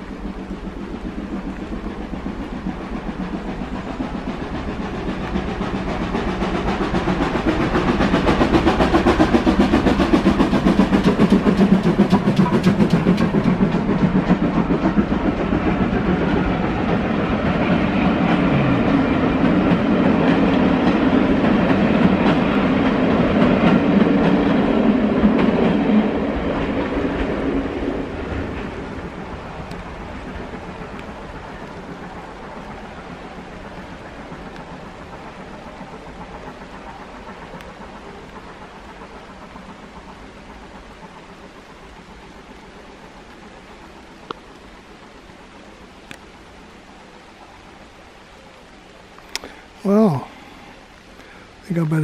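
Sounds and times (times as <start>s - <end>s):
train wheels clattering on rails: 0.0s - 47.6s.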